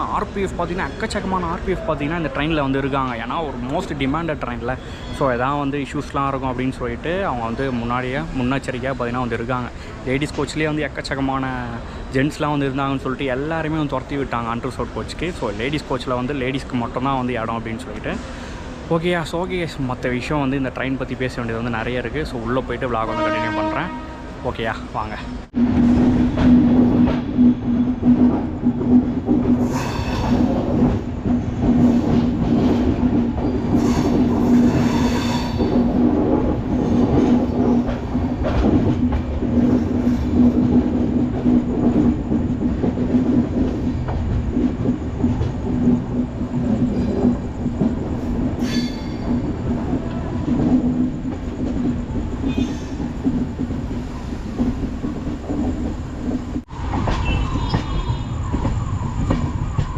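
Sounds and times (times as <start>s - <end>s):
train wheels rumbling and rattling: 0.0s - 59.9s.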